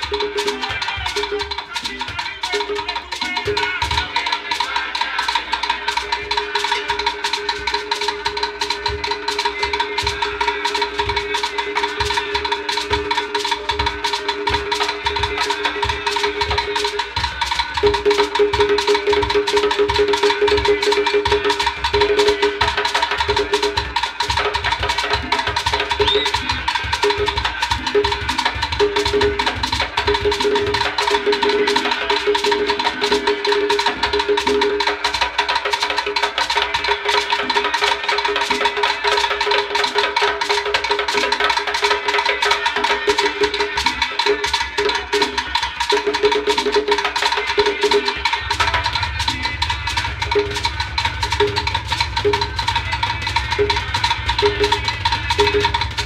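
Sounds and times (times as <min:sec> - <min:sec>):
hand drums: 0:00.0 - 0:56.0
percussion ensemble rhythm: 0:00.0 - 0:56.0
sharp wooden clicks: 0:00.0 - 0:56.0.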